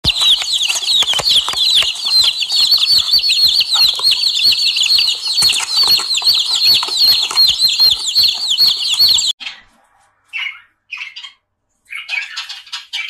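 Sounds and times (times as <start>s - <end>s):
chicks peeping: 0.0s - 9.7s, 10.3s - 13.0s.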